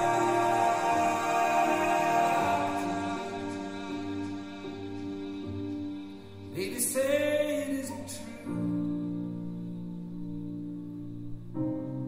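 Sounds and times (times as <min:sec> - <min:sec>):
slow held chords music: 0:00.0 - 0:12.0.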